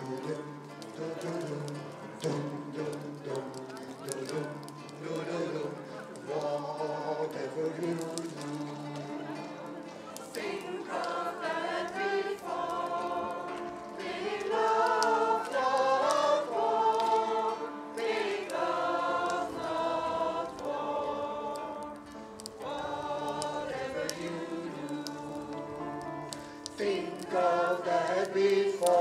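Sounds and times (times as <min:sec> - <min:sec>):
mixed choir singing: 0:00.0 - 0:29.0
quiet guitar accompaniment: 0:00.0 - 0:29.0.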